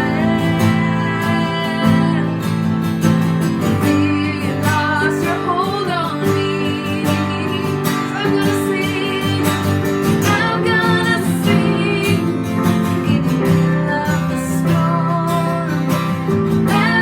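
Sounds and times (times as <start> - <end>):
person singing: 0.0 - 2.7, 3.5 - 17.0
acoustic guitar strumming: 0.0 - 17.0.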